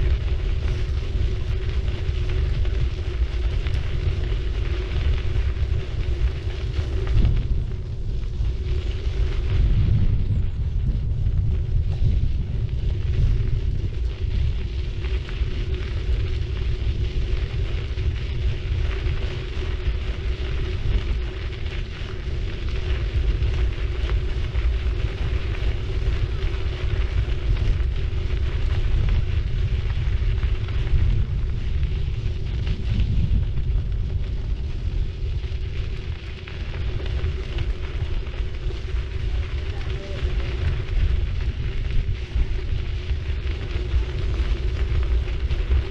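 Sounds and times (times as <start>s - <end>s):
bike tyres crackling on path: 0.0s - 45.9s
low rumble: 0.0s - 45.9s
steady hum: 0.0s - 45.9s.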